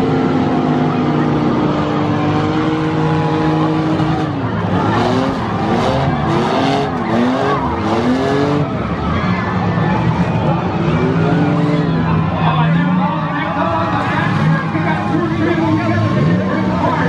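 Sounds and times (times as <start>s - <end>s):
engine revving up and down: 0.0s - 13.4s, 14.0s - 17.0s
race car engines running: 0.0s - 17.0s.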